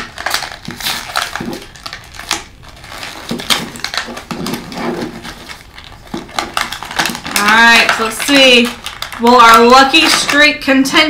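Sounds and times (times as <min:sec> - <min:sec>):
paper wrapper crinkling: 0:00.0 - 0:10.5.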